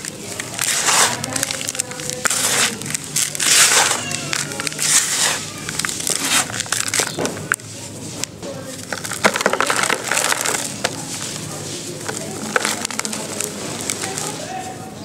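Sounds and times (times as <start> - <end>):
cement lumps grinding and crackling: 0.0 - 14.8
hands crunching dry dirt: 0.0 - 14.8.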